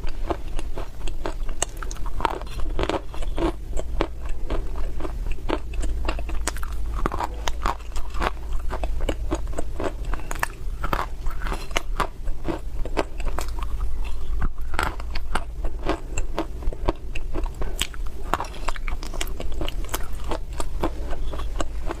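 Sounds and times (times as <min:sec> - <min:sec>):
dry clay being chewed: 0:00.0 - 0:22.0.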